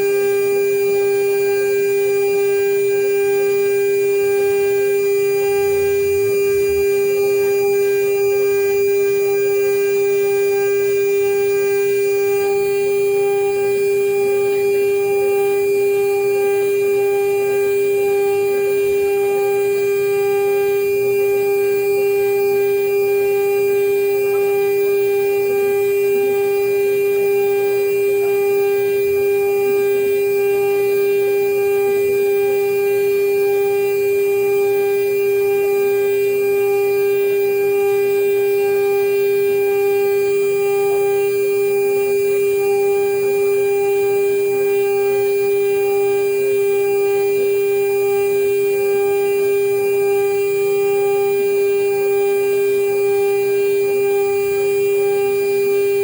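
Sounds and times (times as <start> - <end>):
router spindle whining: 0.0 - 56.0.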